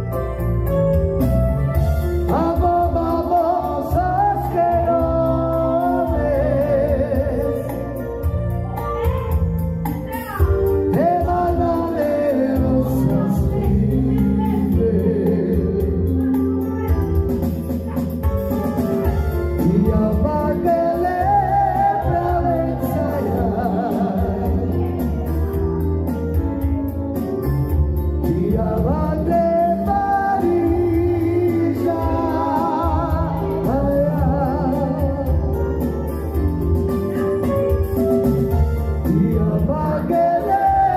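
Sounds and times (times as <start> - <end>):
electronic keyboard: 0.0 - 40.9
sustained bass notes: 0.0 - 40.9
man singing into a microphone: 2.0 - 25.8, 28.0 - 36.3, 38.7 - 40.9.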